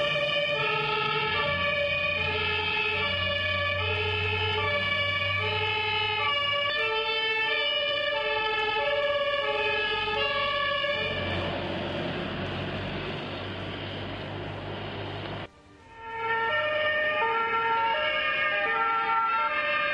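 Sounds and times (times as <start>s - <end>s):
two-tone emergency sirens: 0.0s - 14.6s, 15.6s - 19.9s
low engine and road rumble: 0.0s - 19.9s.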